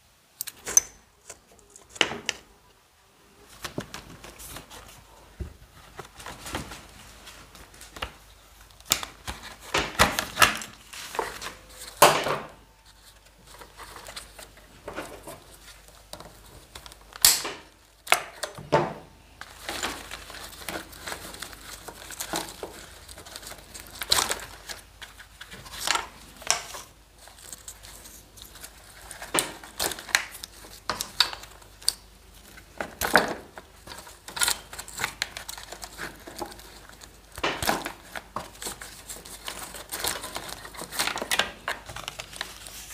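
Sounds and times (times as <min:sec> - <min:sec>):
wires and plastic rustling: 0:00.0 - 0:42.9.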